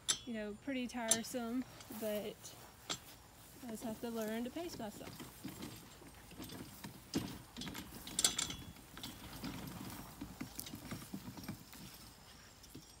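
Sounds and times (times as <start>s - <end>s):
dump cart rattling over grass: 0.0s - 13.0s.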